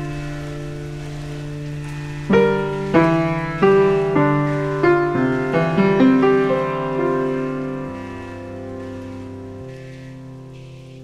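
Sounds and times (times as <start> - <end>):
held chord: 0.0 - 11.0
piano single notes: 0.0 - 11.0.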